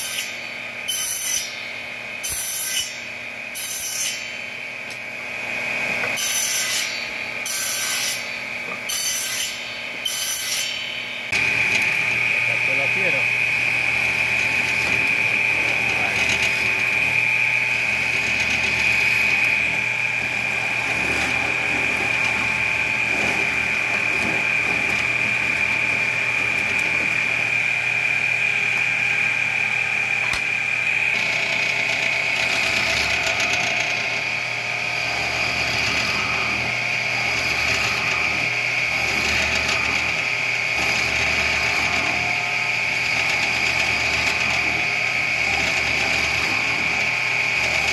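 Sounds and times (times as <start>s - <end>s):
drill bit cutting wood: 0.0s - 4.6s, 6.0s - 47.9s
high-pitched motor whine: 0.0s - 47.9s.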